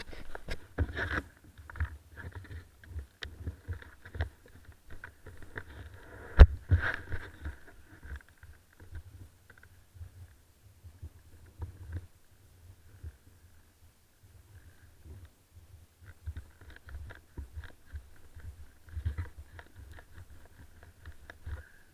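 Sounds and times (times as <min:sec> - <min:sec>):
faint steady whine: 0:00.0 - 0:21.9.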